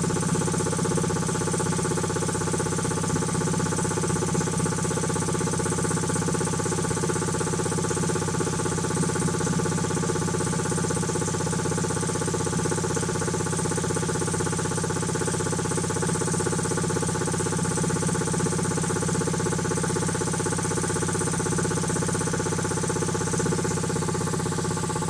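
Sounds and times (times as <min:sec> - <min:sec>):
air compressor pump running: 0:00.0 - 0:25.0.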